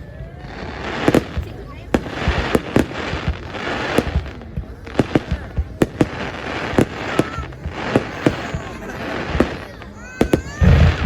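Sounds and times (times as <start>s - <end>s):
fireworks bangs: 0.0s - 11.0s
fireworks crackling hiss: 0.0s - 11.0s.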